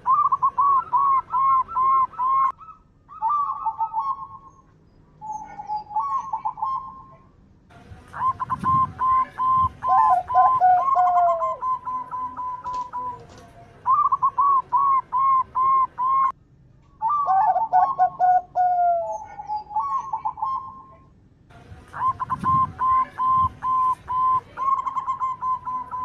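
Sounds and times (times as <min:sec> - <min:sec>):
doves cooing: 0:00.0 - 0:04.6, 0:05.2 - 0:07.2, 0:08.2 - 0:16.3, 0:17.0 - 0:21.1, 0:21.9 - 0:26.0.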